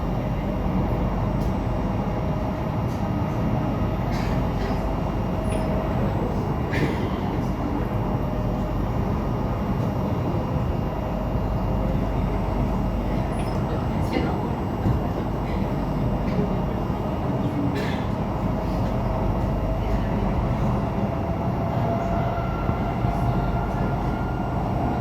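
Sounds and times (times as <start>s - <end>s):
train wheels and motors rumbling: 0.0s - 25.0s.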